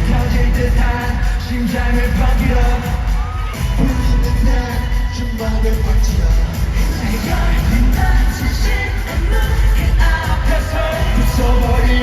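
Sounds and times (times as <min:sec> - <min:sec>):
pop concert music with singing: 0:00.0 - 0:12.0.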